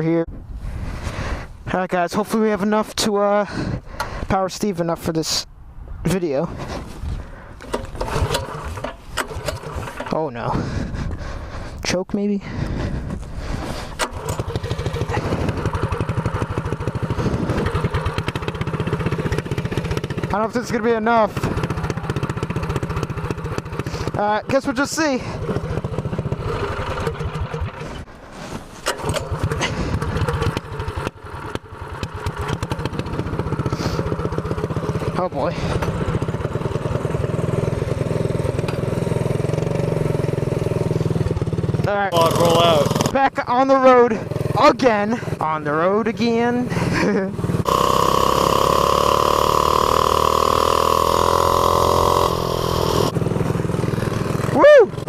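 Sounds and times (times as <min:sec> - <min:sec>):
mini bike engine running: 0:07.6 - 0:11.7, 0:12.6 - 0:28.1, 0:28.8 - 0:55.0.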